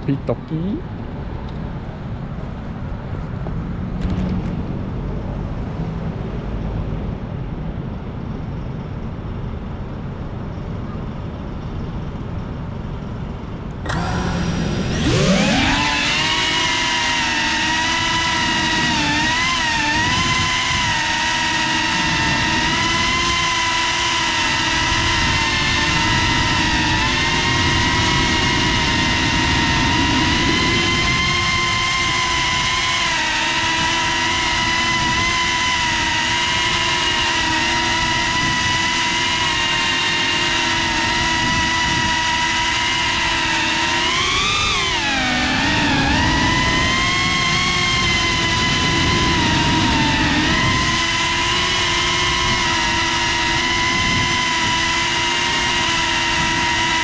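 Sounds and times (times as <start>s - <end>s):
drone motors whining: 0.0s - 7.2s, 13.6s - 57.0s.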